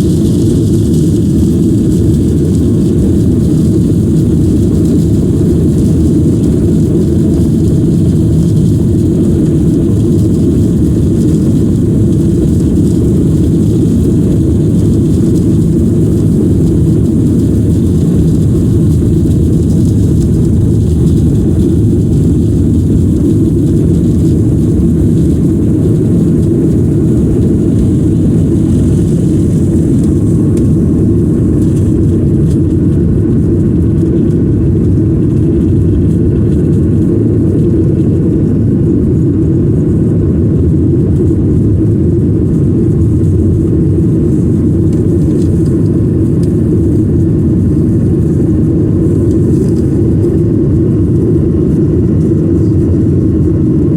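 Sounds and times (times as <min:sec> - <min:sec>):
jet engine roar in cabin: 0:00.0 - 0:53.9.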